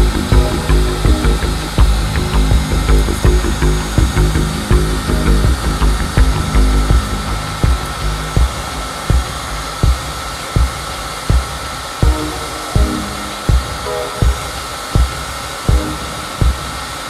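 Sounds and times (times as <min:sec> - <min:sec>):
background music with thumping beat: 0:00.0 - 0:17.0.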